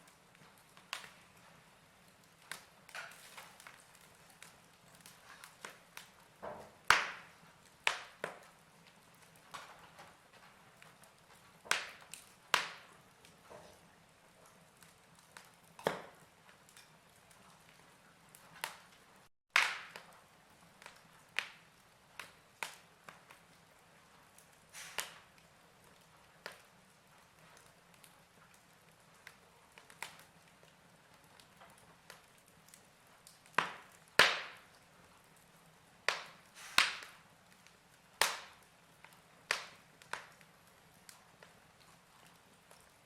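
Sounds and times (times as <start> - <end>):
faint steady hiss: 0.0 - 43.0
fire crackling with pops and snaps: 0.0 - 43.0.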